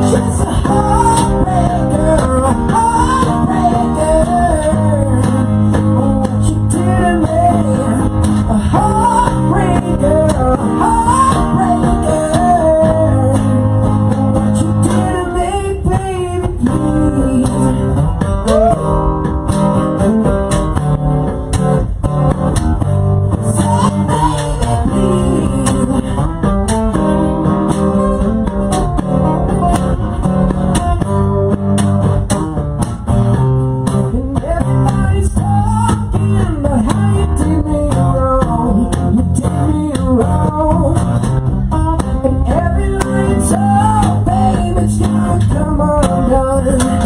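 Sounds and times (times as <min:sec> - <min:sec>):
live rock band playing: 0:00.0 - 0:47.0
sliding guitar line: 0:00.0 - 0:47.0.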